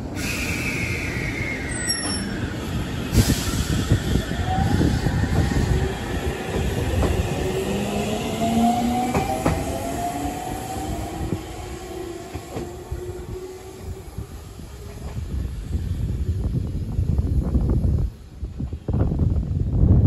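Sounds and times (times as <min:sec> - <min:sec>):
low train rumble: 0:00.0 - 0:20.0.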